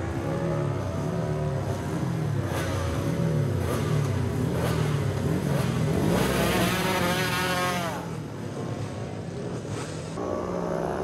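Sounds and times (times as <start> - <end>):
motorcycles revving and accelerating: 0.0 - 11.0.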